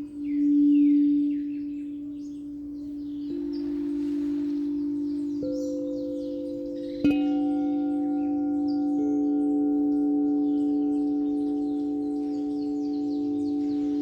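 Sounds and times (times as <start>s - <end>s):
singing bowl struck: 0.0s - 14.0s
singing bowls ringing: 0.0s - 14.0s.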